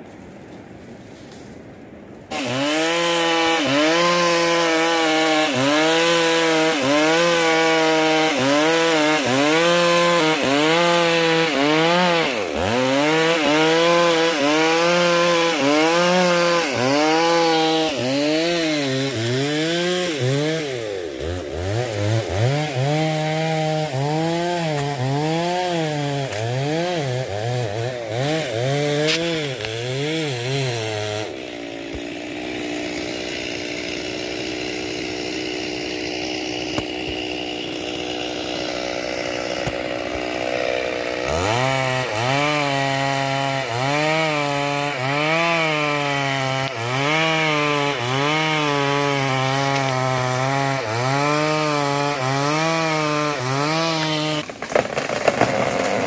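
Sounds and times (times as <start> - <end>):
chainsaw cutting wood: 2.2 - 56.0.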